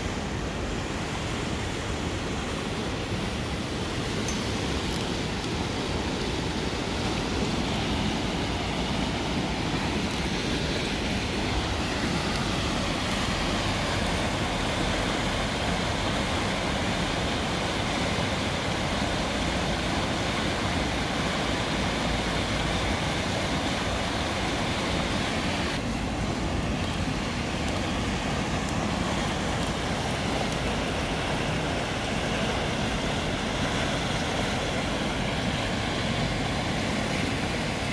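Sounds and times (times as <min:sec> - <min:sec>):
river rushing over a drop: 0:00.0 - 0:37.9.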